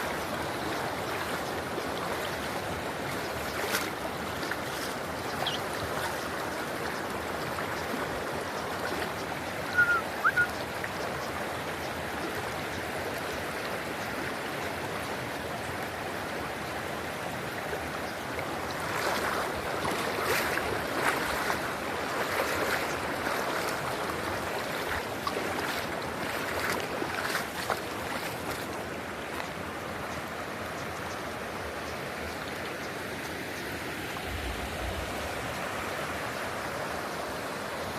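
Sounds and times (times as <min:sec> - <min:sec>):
water flowing: 0:00.0 - 0:37.9.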